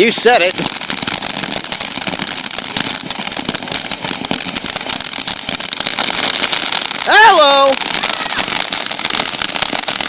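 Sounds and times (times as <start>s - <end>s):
fireworks rapid crackling pops: 0.0s - 10.0s.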